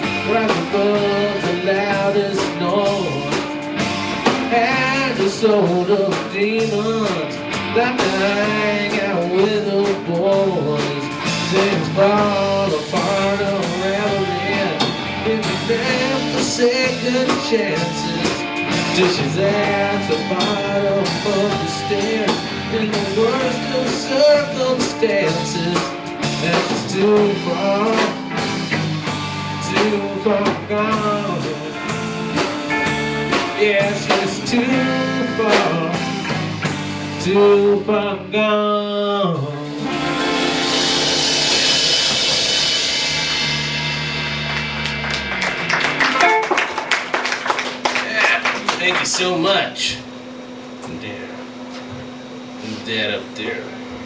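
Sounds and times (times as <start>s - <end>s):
live rock band playing: 0.0s - 52.9s
electric guitar bending notes: 0.0s - 54.0s.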